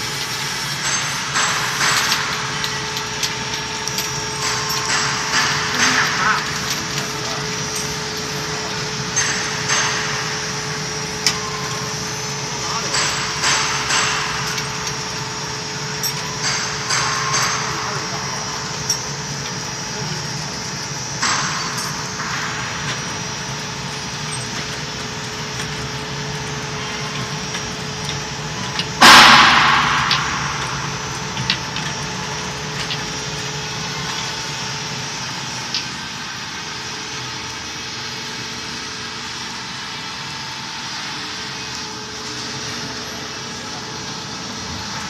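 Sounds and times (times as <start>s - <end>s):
bottling machine running: 0.0s - 45.0s.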